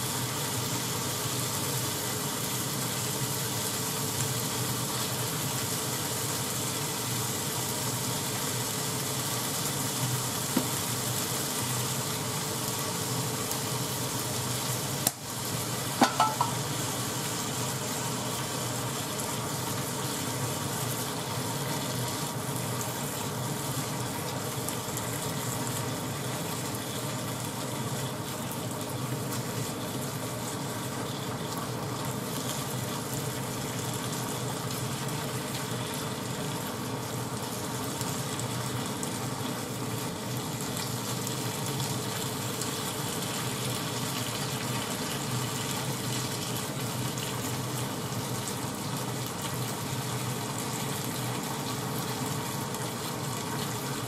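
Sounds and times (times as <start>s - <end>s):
meat and onion sizzling in pan: 0.0s - 54.0s.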